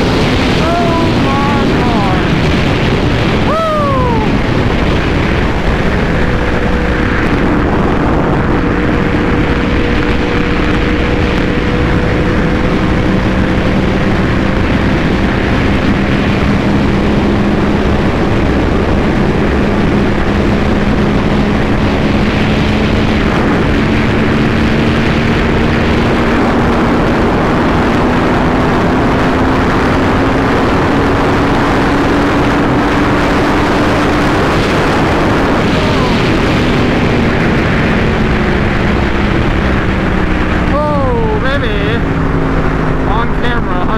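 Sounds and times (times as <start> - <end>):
motorcycle engine at high speed: 0.0 - 43.9
wind rush on microphone: 0.0 - 43.9.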